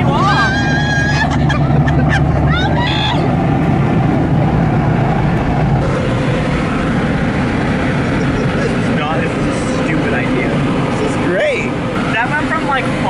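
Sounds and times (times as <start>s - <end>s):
car wash dryer blowers: 0.0s - 13.0s.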